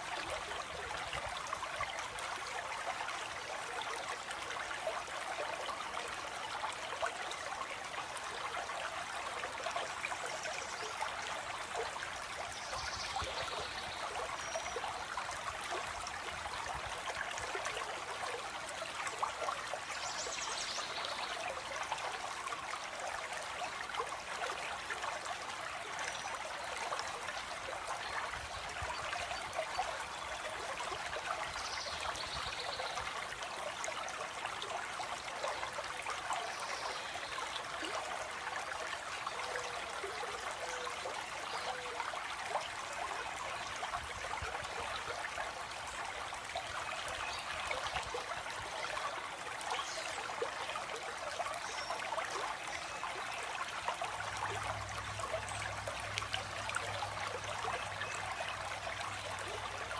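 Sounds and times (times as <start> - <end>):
stream of water trickling: 0.0 - 59.9.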